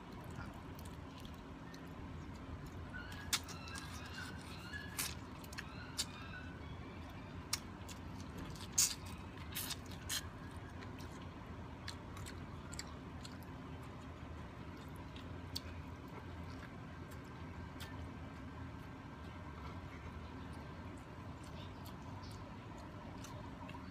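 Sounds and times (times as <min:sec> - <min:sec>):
person chewing crunchy food: 0:00.0 - 0:23.9.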